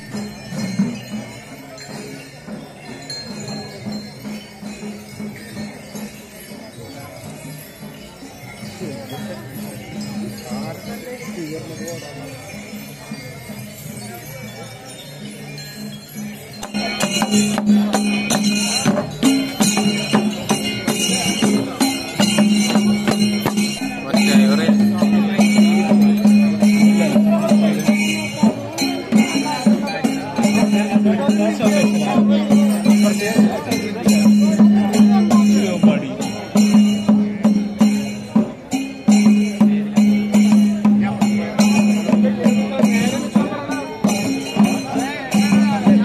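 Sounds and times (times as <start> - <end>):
drum strokes: 0.0 - 11.8, 15.0 - 46.0
crowd murmur: 0.0 - 46.0
hand cymbals clashing: 0.0 - 46.0
small bells jingling: 0.0 - 46.0.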